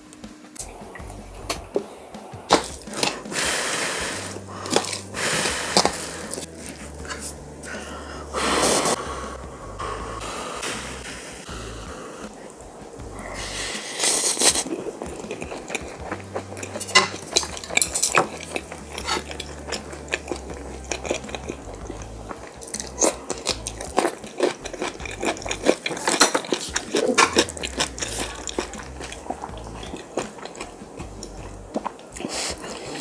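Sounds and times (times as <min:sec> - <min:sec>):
wet chewing and mouth clicks: 0:00.6 - 0:09.0, 0:10.6 - 0:33.0.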